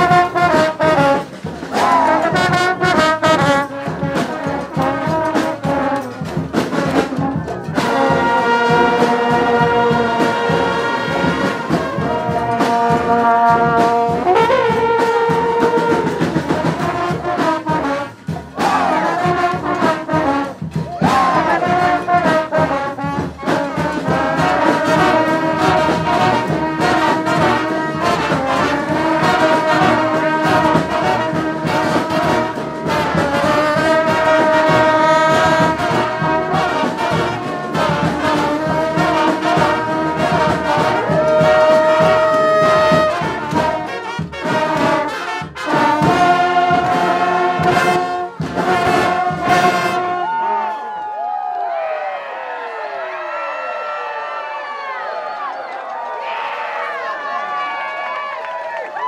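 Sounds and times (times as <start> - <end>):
brass bands playing: 0.0 - 58.9.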